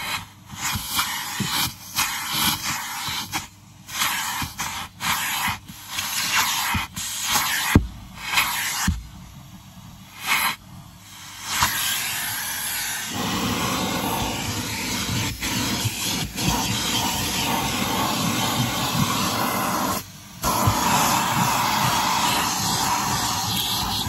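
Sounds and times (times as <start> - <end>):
vacuum cleaner sucking carpet: 0.0 - 9.0, 10.1 - 24.0.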